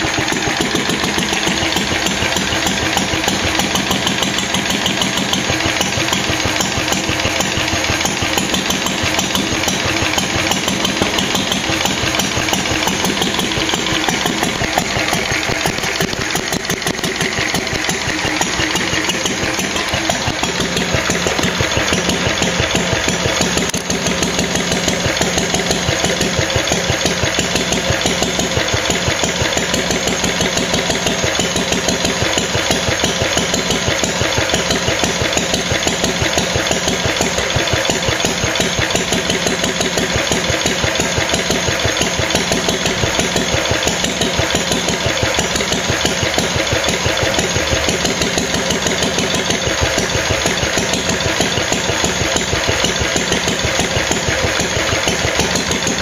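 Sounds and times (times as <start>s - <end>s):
stationary engine running: 0.0s - 56.0s.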